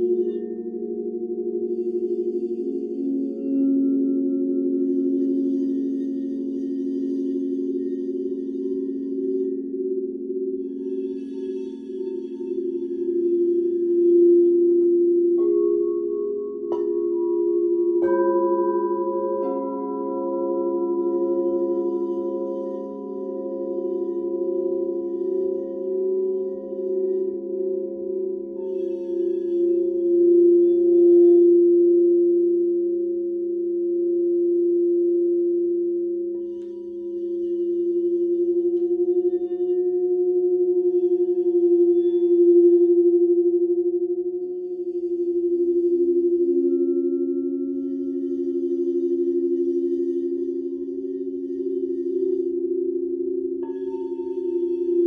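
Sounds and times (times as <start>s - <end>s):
singing bowls ringing: 0.0s - 35.6s, 36.2s - 55.0s
bowl being struck: 0.0s - 55.0s.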